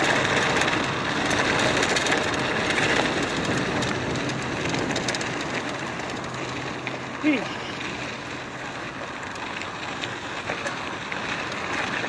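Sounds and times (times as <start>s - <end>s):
bike rattling and ticking: 0.0s - 12.0s
bike tyres on gravel trail: 0.0s - 12.0s.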